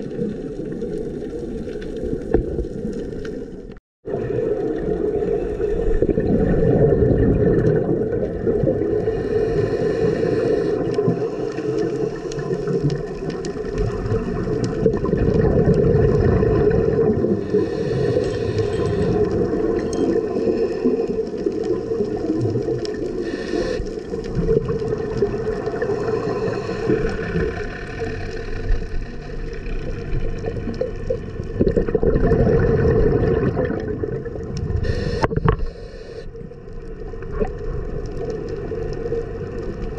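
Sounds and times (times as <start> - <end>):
diver's regulator bubbles: 0.0 - 39.9
muffled underwater rumble and gurgle: 0.0 - 39.9.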